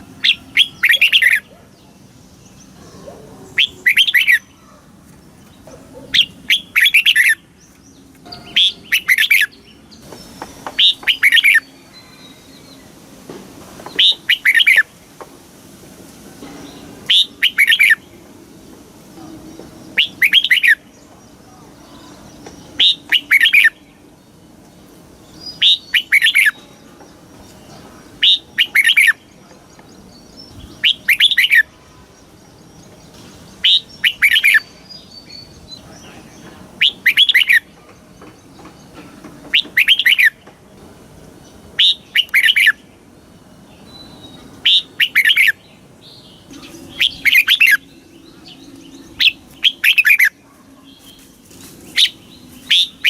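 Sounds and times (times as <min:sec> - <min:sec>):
bird warbling song: 0:00.0 - 0:13.0, 0:13.8 - 0:14.9, 0:16.4 - 0:53.0.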